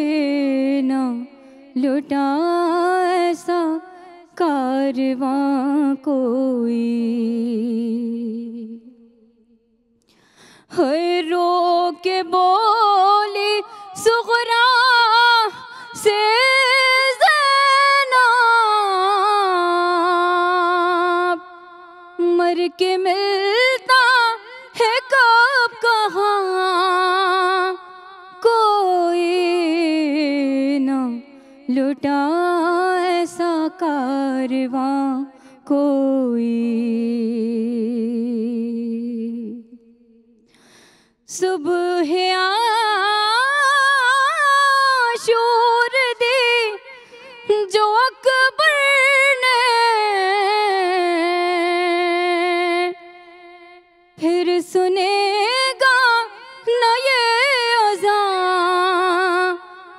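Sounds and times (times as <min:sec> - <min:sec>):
woman singing lament: 0:00.0 - 0:09.1, 0:10.6 - 0:40.0, 0:41.3 - 0:59.9.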